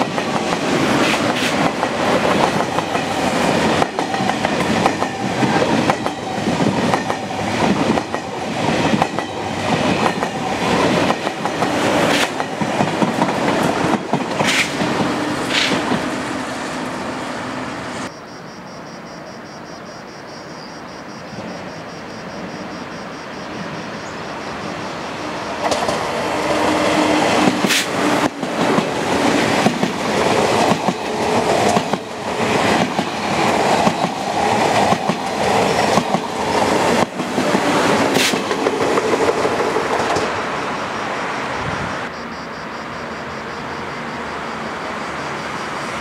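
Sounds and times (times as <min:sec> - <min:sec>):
train rail rumble: 0:00.0 - 0:18.1, 0:23.6 - 0:46.0.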